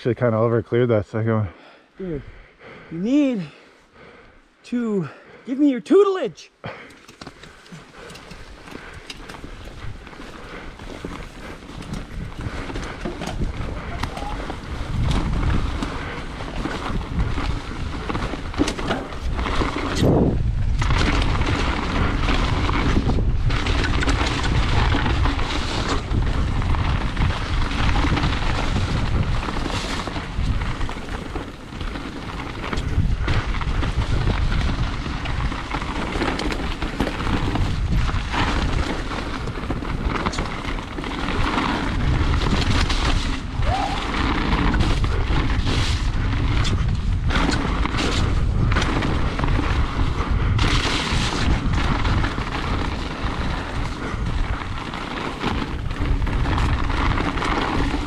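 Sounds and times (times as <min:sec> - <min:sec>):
bike rumble and rattle: 0:06.6 - 0:58.0
wind rushing over microphone: 0:08.0 - 0:58.0.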